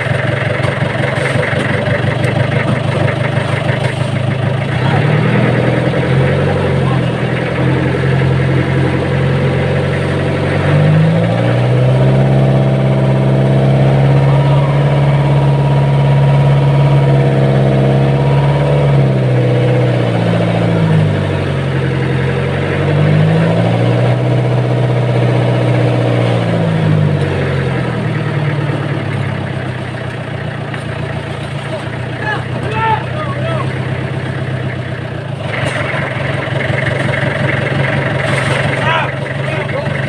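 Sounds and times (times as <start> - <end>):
boat engine revving: 0.0 - 40.0.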